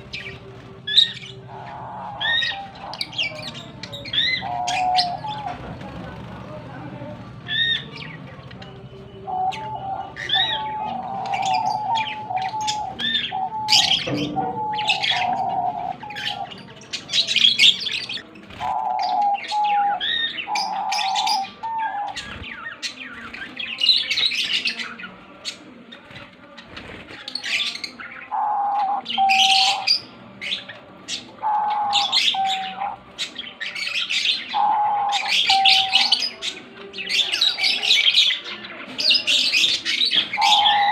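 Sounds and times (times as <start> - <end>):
pet birds chirping: 0.0 - 40.9.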